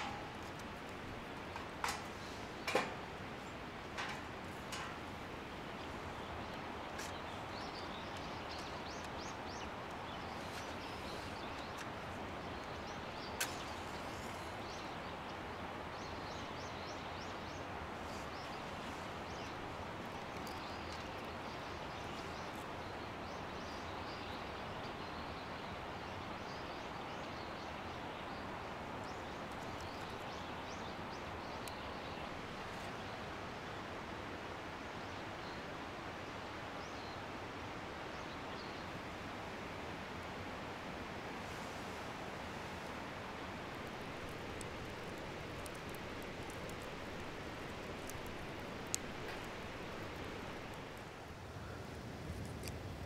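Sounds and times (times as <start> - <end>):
steady rushing hiss: 0.0 - 53.0.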